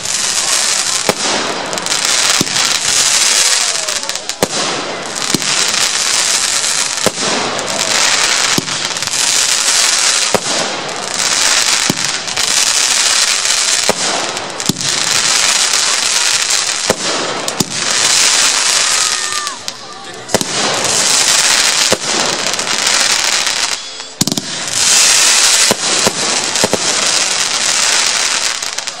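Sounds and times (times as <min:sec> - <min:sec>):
firework bangs: 0:00.0 - 0:29.0
hissing crackle of firework stars: 0:00.0 - 0:29.0.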